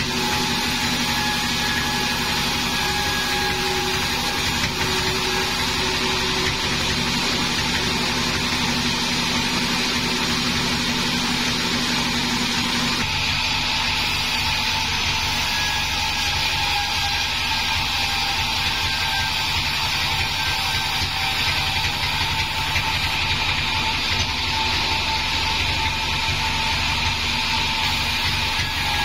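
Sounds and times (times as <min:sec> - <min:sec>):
bandsaw cutting plank: 0:00.0 - 0:29.0.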